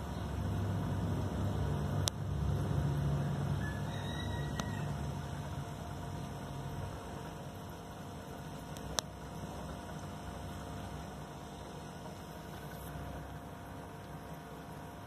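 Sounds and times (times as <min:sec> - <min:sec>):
aquarium equipment hum and hiss: 0:00.0 - 0:15.0.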